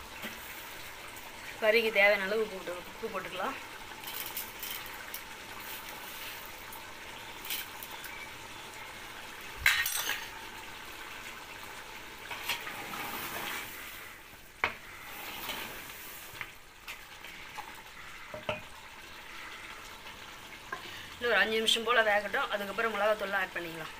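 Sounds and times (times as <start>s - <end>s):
chicken sizzling in a pot: 0.0s - 23.9s.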